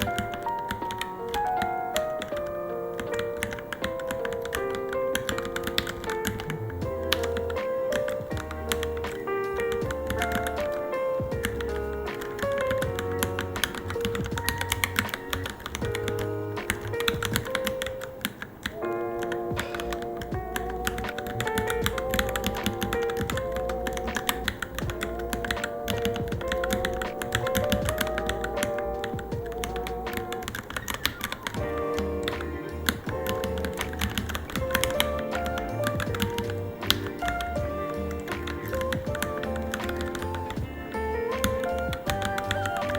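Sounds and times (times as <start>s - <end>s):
background music: 0.0s - 42.9s
mechanical keyboard typing: 0.0s - 42.9s.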